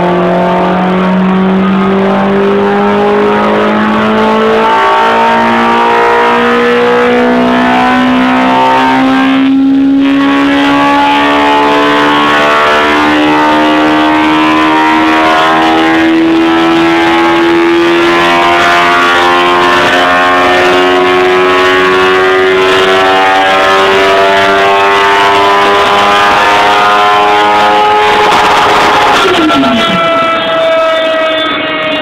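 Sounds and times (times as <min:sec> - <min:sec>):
motorcycle engine at full throttle: 0:00.0 - 0:32.0.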